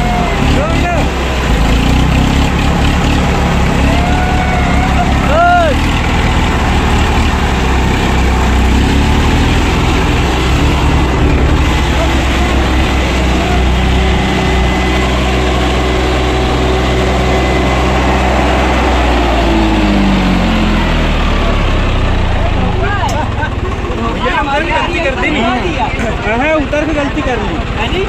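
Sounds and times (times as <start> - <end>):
tractor engines droning under load: 0.0 - 28.0.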